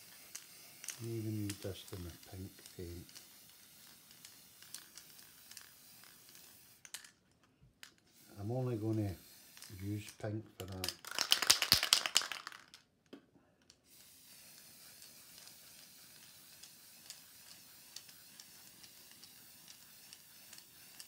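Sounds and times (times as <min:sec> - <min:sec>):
spray can rattling: 0:00.0 - 0:07.2, 0:07.8 - 0:12.9, 0:13.9 - 0:21.0
faint steady spray hiss: 0:00.0 - 0:11.0, 0:13.4 - 0:21.0.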